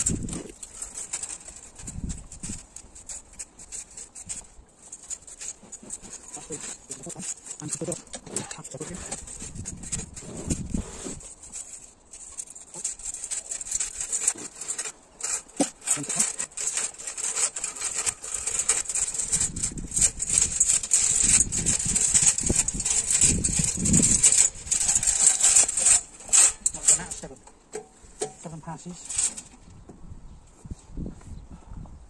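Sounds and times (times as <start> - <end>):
compost spreader drum rattling: 0.0 - 29.6.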